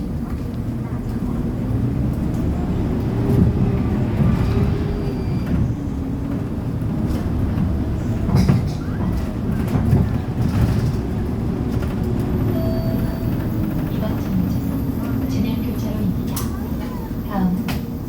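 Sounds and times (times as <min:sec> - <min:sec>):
bus body rattling: 0:00.0 - 0:18.0
bus engine low rumble: 0:00.0 - 0:18.0.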